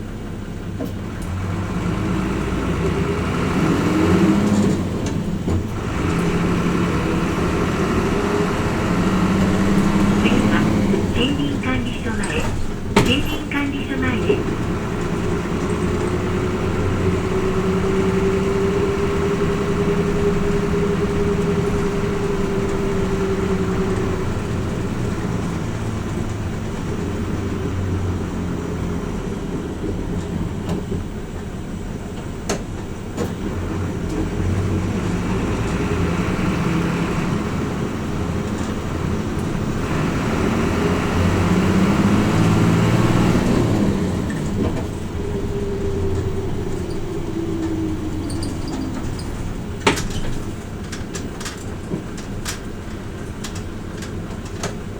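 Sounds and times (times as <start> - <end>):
diesel bus engine under load: 0.0 - 54.9.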